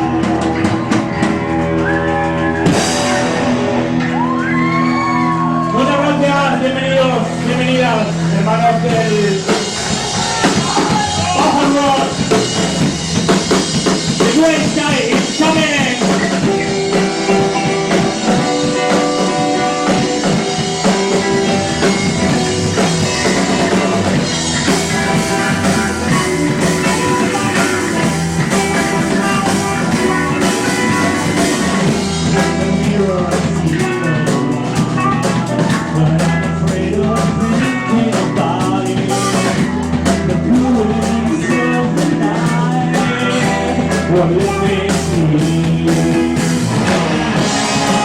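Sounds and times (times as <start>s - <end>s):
rock band playing: 0.0s - 48.0s.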